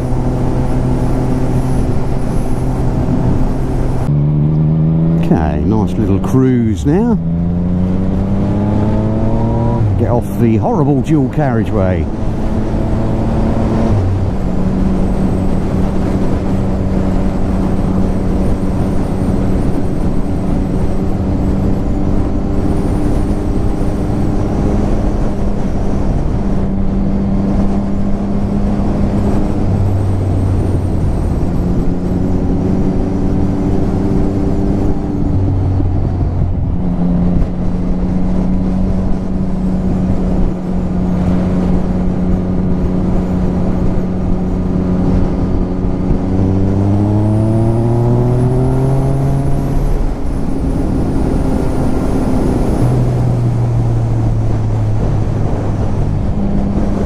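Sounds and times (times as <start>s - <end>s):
wind rush: 11.2s - 57.0s.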